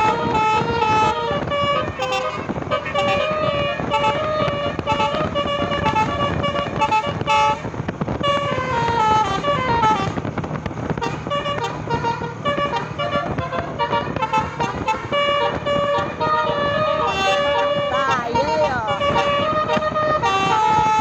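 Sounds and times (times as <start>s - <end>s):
musical bus air horn melody: 0.0s - 21.0s.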